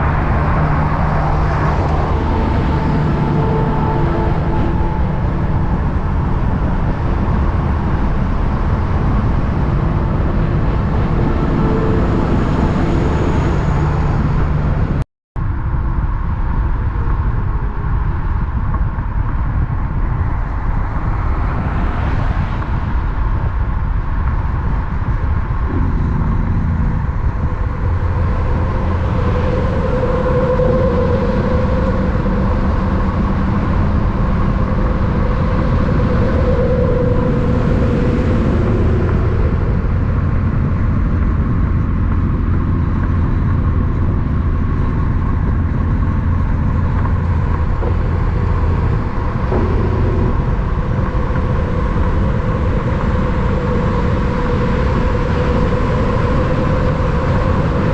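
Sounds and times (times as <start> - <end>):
steady hum: 0.0 - 16.0, 22.6 - 57.9
traffic rumble: 0.0 - 57.9.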